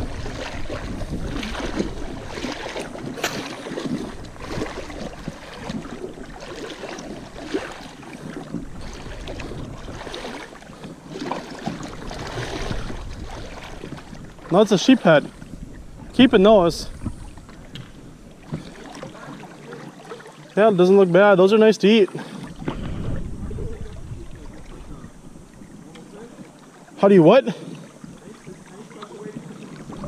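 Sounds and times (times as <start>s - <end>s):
wind rumbling on microphone: 0.0s - 20.0s, 22.5s - 26.9s, 27.7s - 30.0s
river water splashing: 0.0s - 30.0s.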